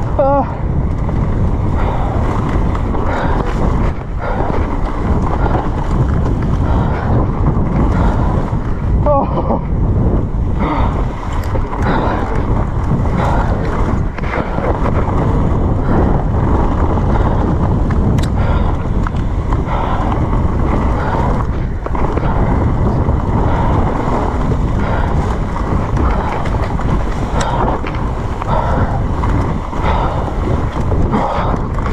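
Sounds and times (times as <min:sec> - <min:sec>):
bike tyres on wet trail: 0:00.0 - 0:31.9
wind buffeting microphone: 0:00.0 - 0:31.9.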